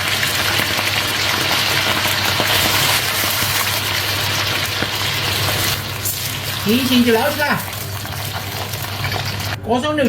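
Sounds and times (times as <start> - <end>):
meat sizzling in hot oil: 0.0 - 9.6.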